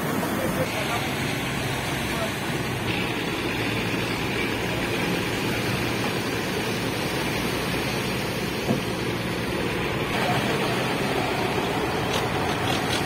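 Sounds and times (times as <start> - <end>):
steady rushing noise: 0.0 - 13.0
tractor engine running: 0.0 - 13.0.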